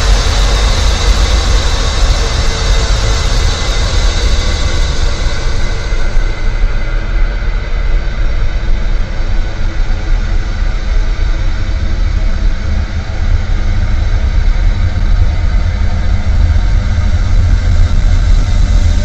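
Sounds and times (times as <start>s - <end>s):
deep rumbling drone: 0.0s - 19.0s.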